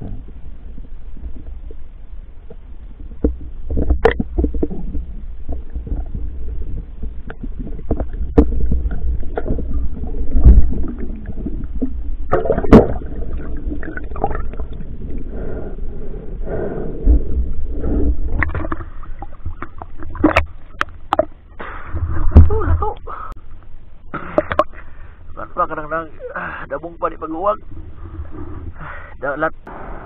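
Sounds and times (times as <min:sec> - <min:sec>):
low underwater rumble: 0:00.0 - 0:25.7, 0:27.0 - 0:28.9.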